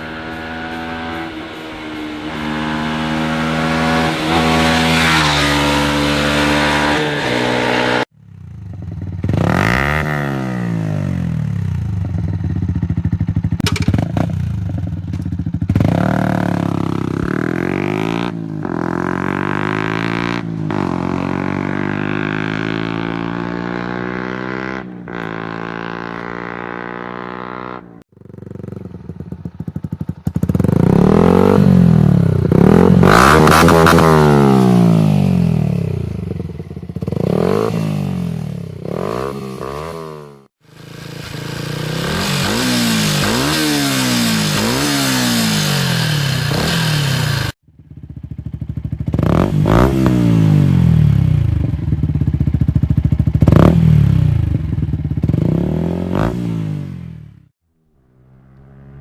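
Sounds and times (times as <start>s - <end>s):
motorcycle passing by: 0.0s - 12.5s, 15.5s - 47.5s, 53.4s - 59.0s
motorcycle engine revving: 0.0s - 59.0s.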